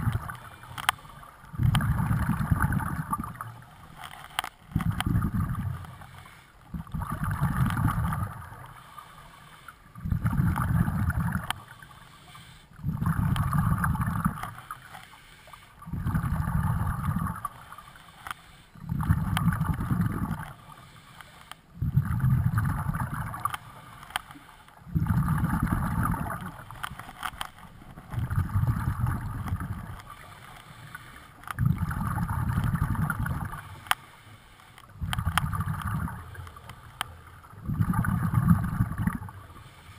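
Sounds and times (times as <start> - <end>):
regulator bubbles rumbling underwater: 0.0 - 21.1, 21.7 - 34.0, 34.9 - 39.9.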